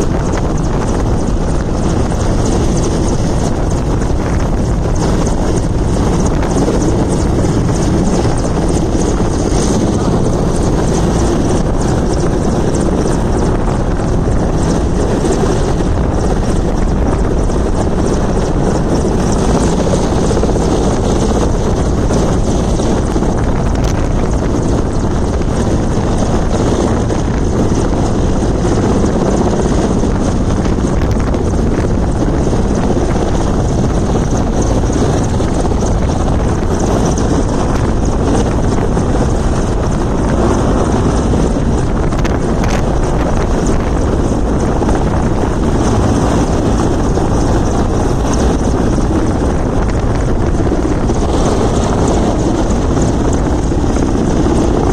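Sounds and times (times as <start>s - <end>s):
helicopter rotor and engine: 0.0s - 54.9s.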